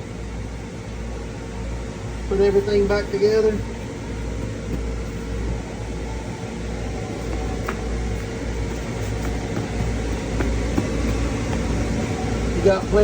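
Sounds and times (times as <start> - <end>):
fan machine humming and whirring: 0.0 - 13.0.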